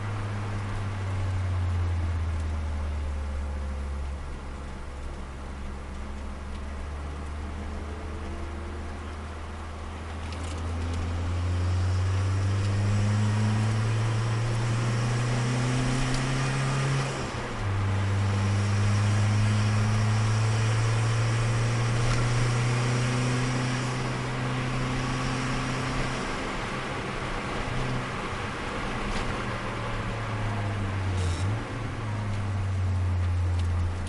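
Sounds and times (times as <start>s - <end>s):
car engine accelerating hard: 0.0s - 34.0s.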